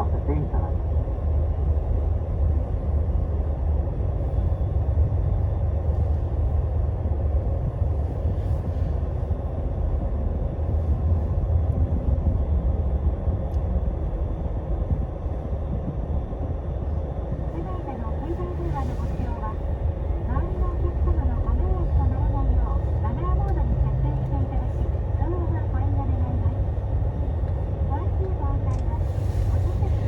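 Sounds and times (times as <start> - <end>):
bus diesel engine rumble: 0.0 - 30.0.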